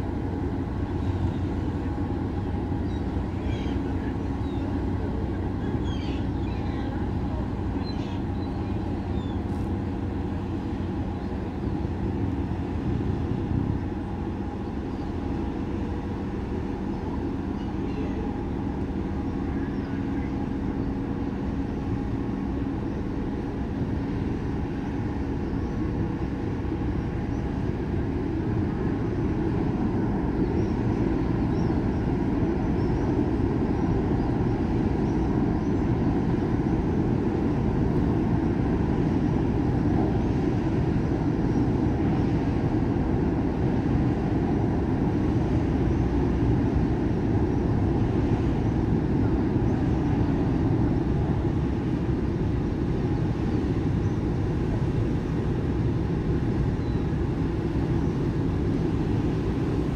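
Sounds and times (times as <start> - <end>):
ship engines rumbling: 0.0 - 59.9.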